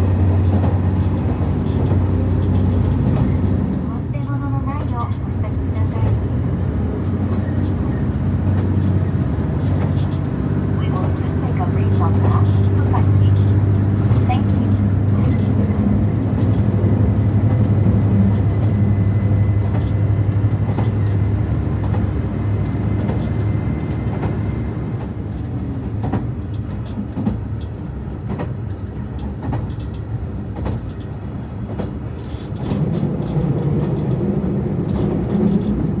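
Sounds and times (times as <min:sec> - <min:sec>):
regular rail clicks: 0:00.0 - 0:36.0
train running gear rumble: 0:00.0 - 0:36.0.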